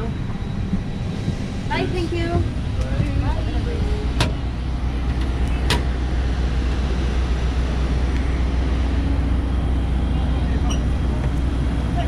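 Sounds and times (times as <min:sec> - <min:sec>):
vehicle rumble from inside: 0:00.0 - 0:12.0.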